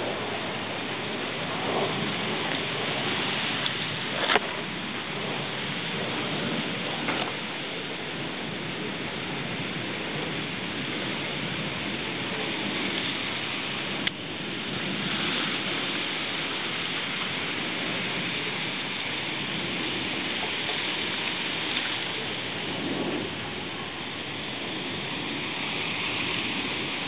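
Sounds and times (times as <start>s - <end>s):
wind rustling reeds: 0.0s - 27.0s.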